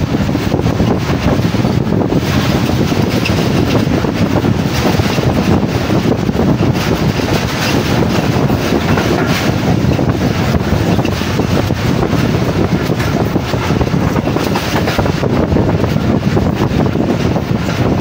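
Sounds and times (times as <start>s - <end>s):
train coaches rumbling: 0.0s - 18.0s
wind buffeting microphone: 0.0s - 18.0s.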